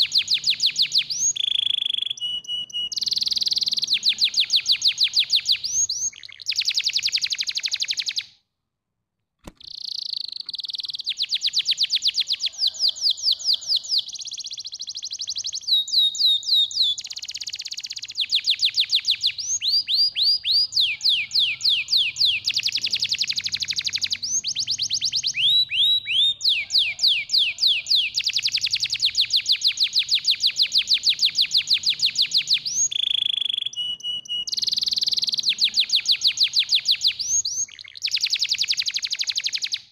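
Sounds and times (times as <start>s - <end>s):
canary singing trills: 0.0s - 8.3s, 9.6s - 39.9s.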